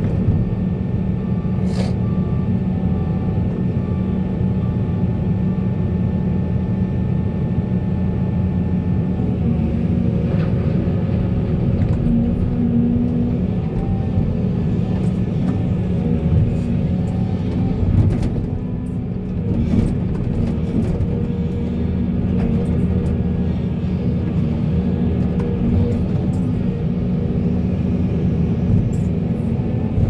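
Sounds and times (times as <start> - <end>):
heavy diesel machinery droning: 0.0 - 30.0.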